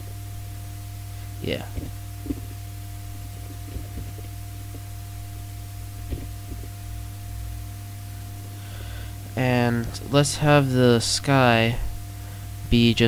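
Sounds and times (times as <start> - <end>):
background hiss: 0.0 - 13.0
low electrical hum: 0.0 - 13.0.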